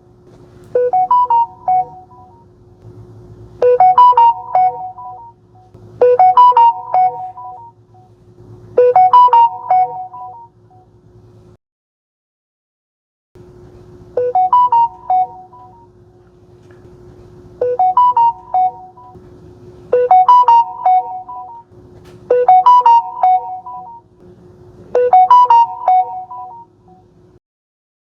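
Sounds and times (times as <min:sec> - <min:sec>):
faint steady hum: 0:00.0 - 0:11.6, 0:13.4 - 0:27.4.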